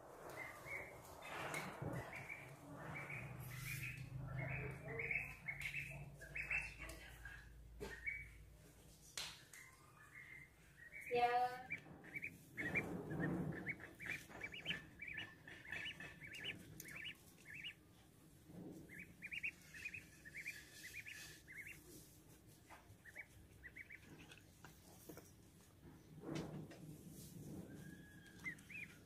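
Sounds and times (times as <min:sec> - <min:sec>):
duckling peeping: 0:00.3 - 0:08.4, 0:09.6 - 0:17.9, 0:18.8 - 0:24.8, 0:27.9 - 0:29.0.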